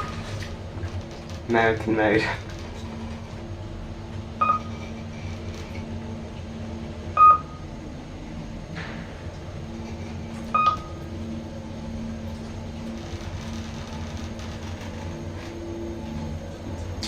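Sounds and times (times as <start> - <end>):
lift motor hum: 0.0 - 17.0.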